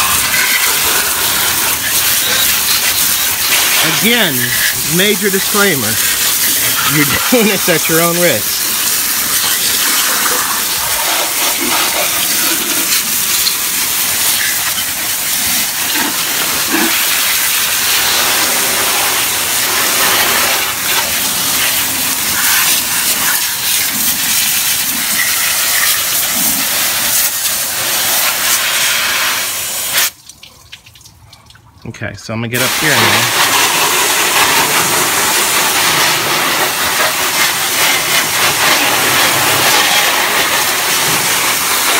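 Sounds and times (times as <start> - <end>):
hose spray splashing on engine: 0.0 - 31.2, 32.5 - 41.9.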